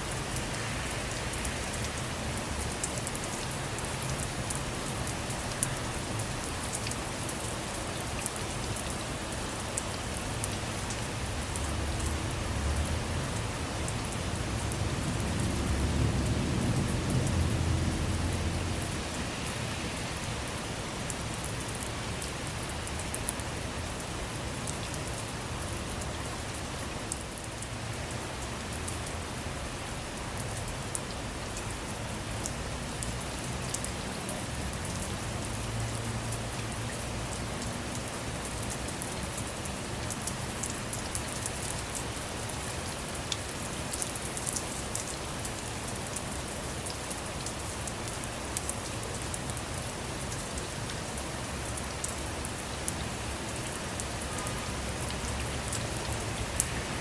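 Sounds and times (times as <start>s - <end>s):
rain falling on a car: 0.0s - 57.0s.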